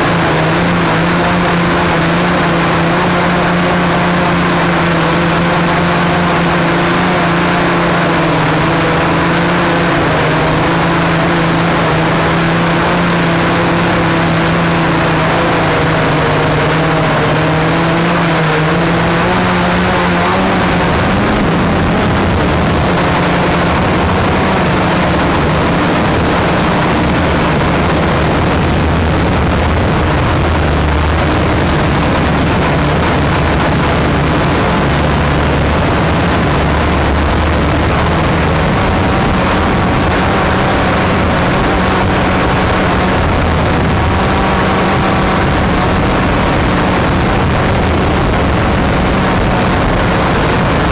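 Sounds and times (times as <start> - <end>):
drone motors humming: 0.0 - 50.9
wind rushing on microphone: 0.0 - 50.9.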